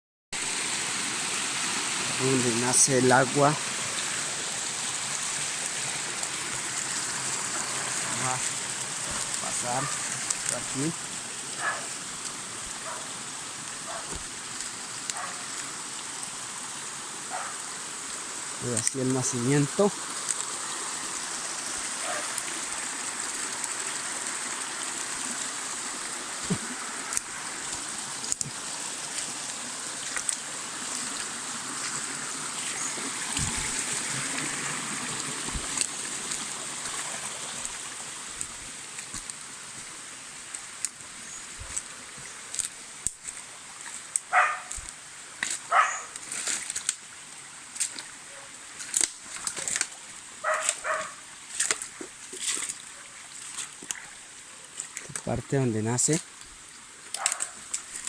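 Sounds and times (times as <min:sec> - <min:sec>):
stream gurgling over rocks: 0:00.4 - 0:58.0.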